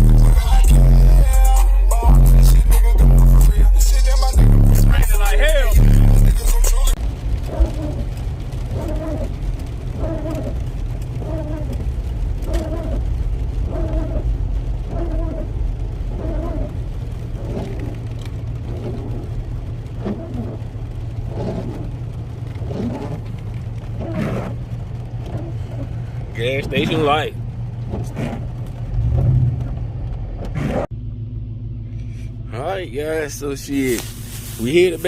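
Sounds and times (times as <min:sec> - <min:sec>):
car engine and road hum: 0:00.0 - 0:35.0
rain: 0:03.5 - 0:30.4, 0:31.8 - 0:35.0.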